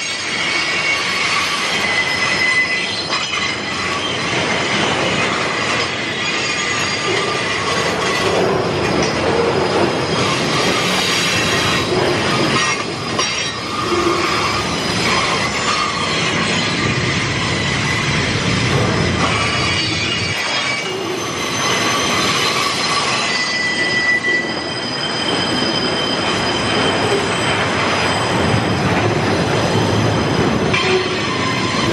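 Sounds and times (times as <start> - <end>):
train wheels rumbling on track: 0.0 - 31.9
wheels squealing: 0.0 - 31.9.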